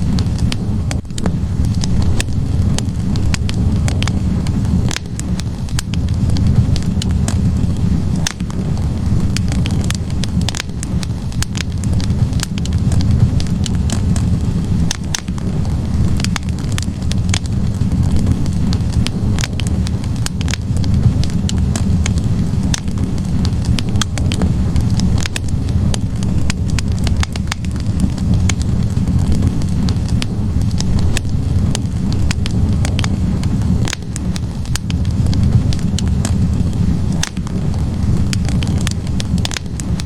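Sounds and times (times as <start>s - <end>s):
logs crackling and popping: 0.0s - 40.0s
low rumble of flames: 0.0s - 40.0s.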